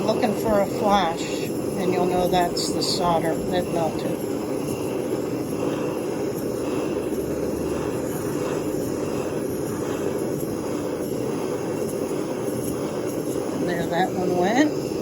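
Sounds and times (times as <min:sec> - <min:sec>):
soldering torch flame: 0:00.0 - 0:15.0.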